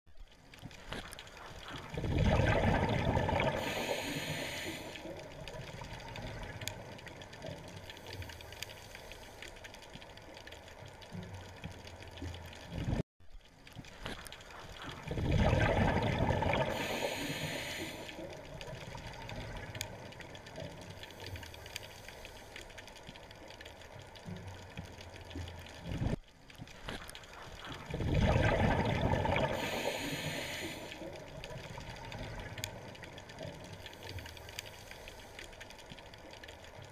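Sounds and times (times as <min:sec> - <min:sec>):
steady water noise: 0:00.1 - 0:36.9
underwater bubbles gurgling: 0:00.1 - 0:36.9.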